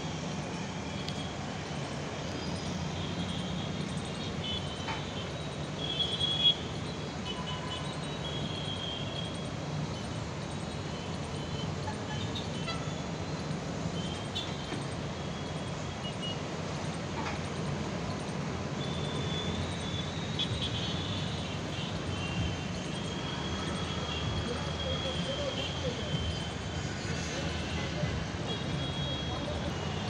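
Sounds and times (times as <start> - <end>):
city traffic hum: 0.0 - 30.0.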